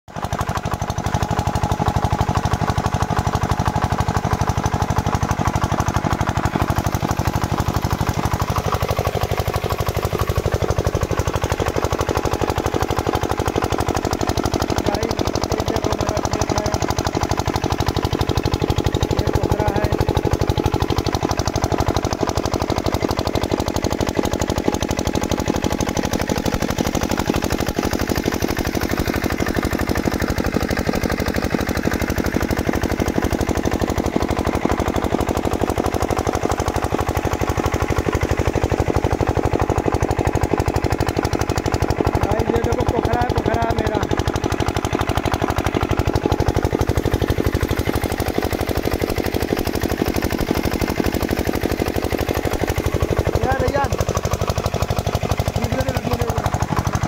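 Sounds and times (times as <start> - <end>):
diesel pump engine chugging: 0.1 - 57.0.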